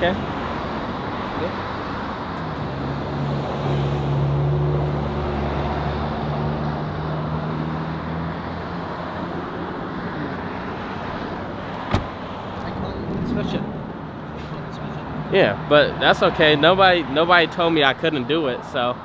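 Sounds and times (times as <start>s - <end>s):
vehicle engine hum: 0.0s - 16.7s
street traffic: 0.0s - 19.0s.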